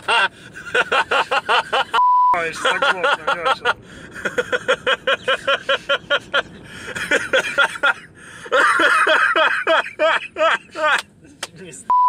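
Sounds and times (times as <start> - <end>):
men laughing hard: 0.0 - 11.1.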